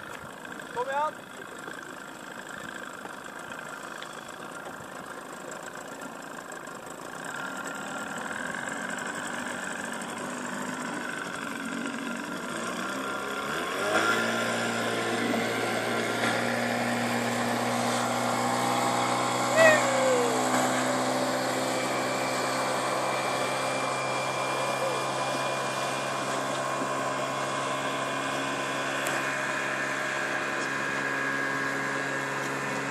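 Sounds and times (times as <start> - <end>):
boat engine idling and revving: 0.0 - 32.9.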